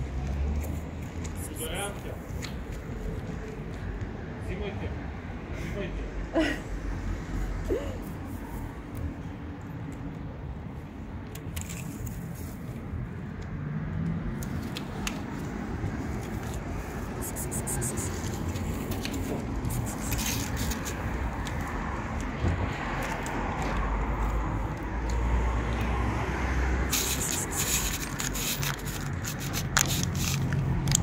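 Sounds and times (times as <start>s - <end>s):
low street noise rumble: 0.0s - 31.0s.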